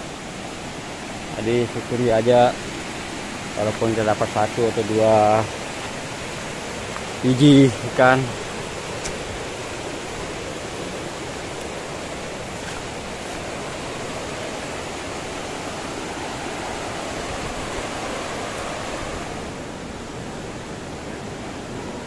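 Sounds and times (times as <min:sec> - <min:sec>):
fast-flowing river rushing: 0:00.0 - 0:22.0.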